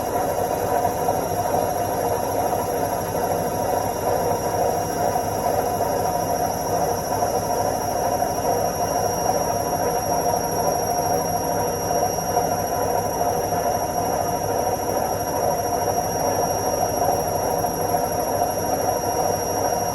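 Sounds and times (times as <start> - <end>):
washing machine spinning: 0.0 - 19.9.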